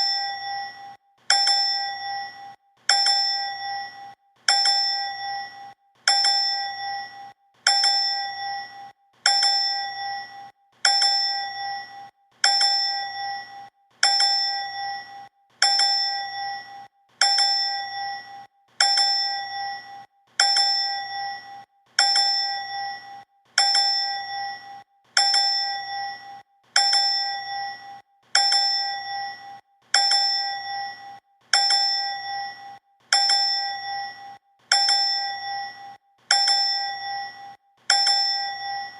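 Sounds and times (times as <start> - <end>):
bright ding ding bell: 0.0 - 38.9.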